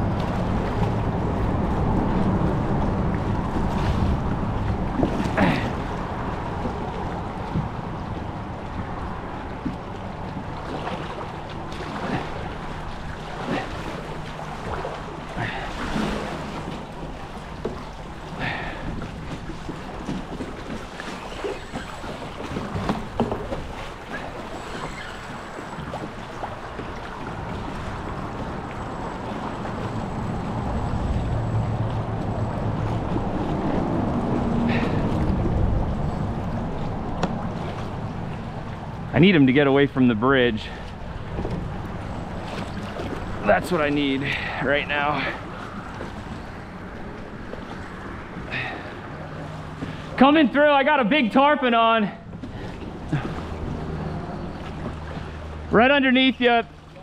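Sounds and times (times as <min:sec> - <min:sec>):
paddle splashes: 0:00.0 - 0:57.0
water lapping and splashing: 0:00.0 - 0:57.0.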